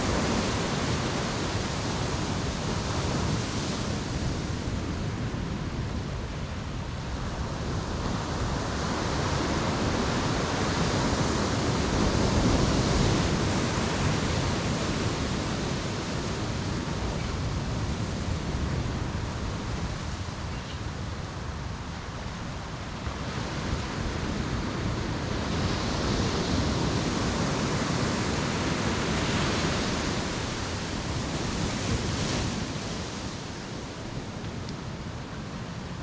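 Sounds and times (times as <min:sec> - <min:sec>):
ocean waves breaking on beach: 0:00.0 - 0:36.0.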